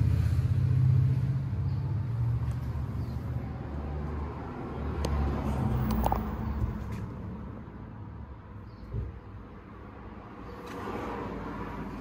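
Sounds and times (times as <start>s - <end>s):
low vehicle engine rumble: 0.0s - 12.0s.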